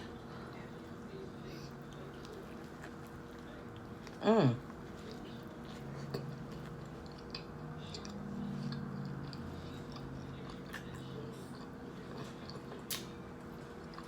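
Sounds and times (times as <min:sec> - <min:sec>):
faint low hum: 0:00.0 - 0:14.0
person chewing food: 0:01.7 - 0:14.0.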